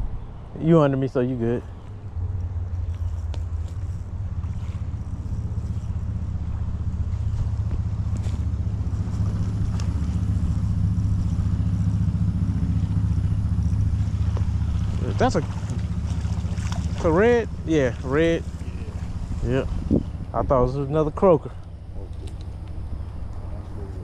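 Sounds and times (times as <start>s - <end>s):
wind buffeting microphone: 1.9s - 21.2s.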